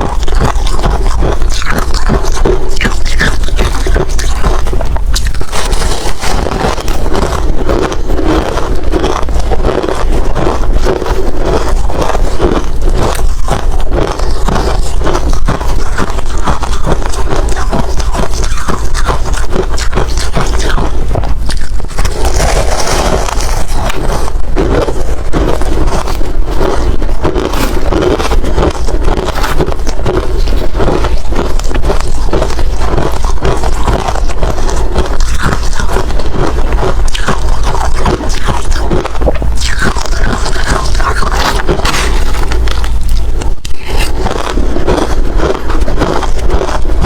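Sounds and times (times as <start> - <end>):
ice being chewed: 0.0 - 47.0.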